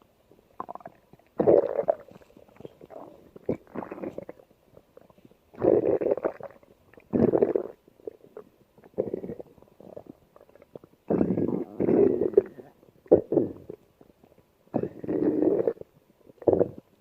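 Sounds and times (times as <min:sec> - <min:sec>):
stomach growling: 0:00.5 - 0:17.0.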